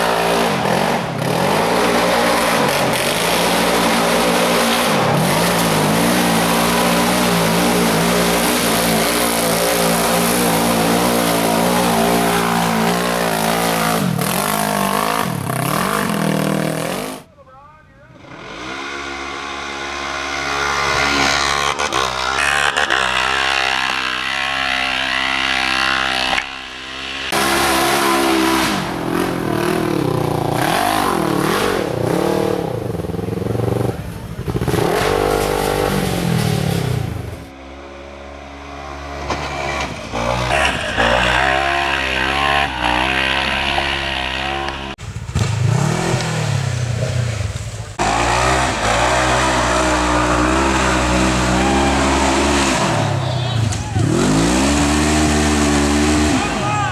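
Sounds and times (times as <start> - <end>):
utility vehicle engines revving: 0.0 - 17.3, 18.0 - 56.9.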